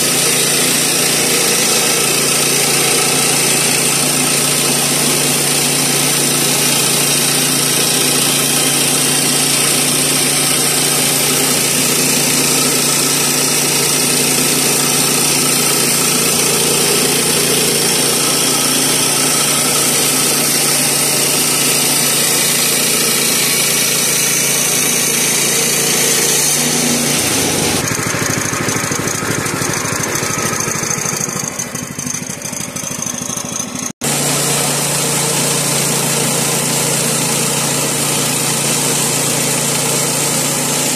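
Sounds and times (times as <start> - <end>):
band blade sawing wood: 0.0 - 40.9
gas engine running: 0.0 - 40.9.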